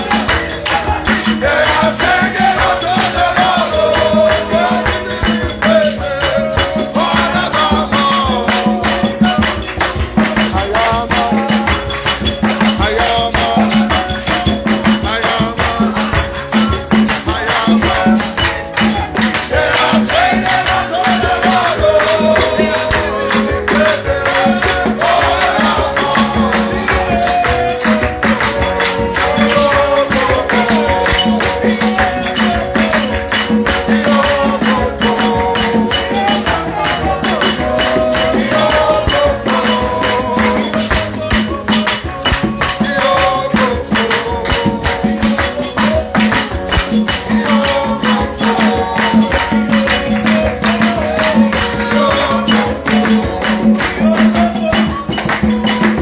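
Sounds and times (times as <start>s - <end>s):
fast percussion rhythm: 0.0s - 56.0s.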